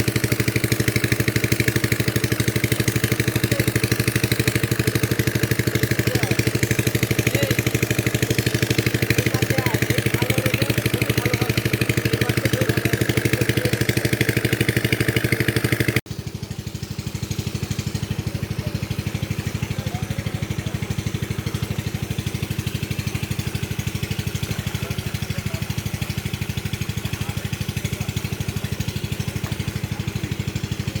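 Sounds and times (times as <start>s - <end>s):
small engine chugging: 0.0s - 31.0s.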